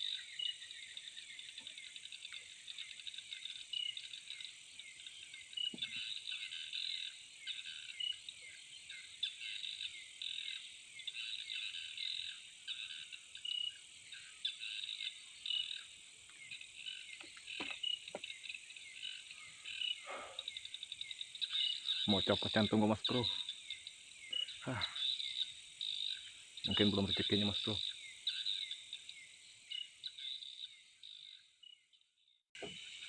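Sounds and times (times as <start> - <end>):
crickets trilling: 0.0 - 31.8, 32.6 - 33.0.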